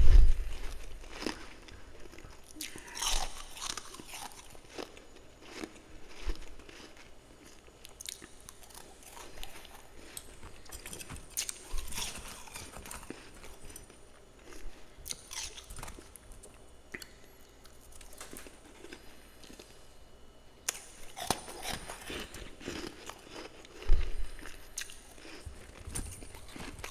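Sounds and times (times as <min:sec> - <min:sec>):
person chewing crunchy frost: 0:00.1 - 0:19.9, 0:20.6 - 0:26.9.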